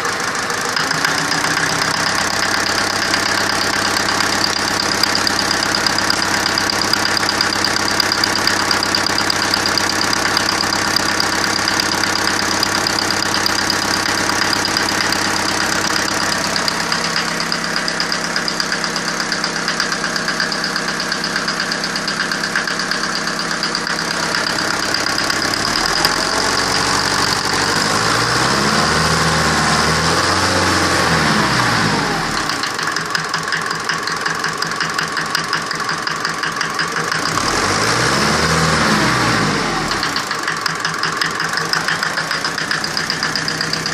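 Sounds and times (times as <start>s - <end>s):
engine idling roughly with knock: 0.0s - 43.9s
engine revving: 0.0s - 43.9s.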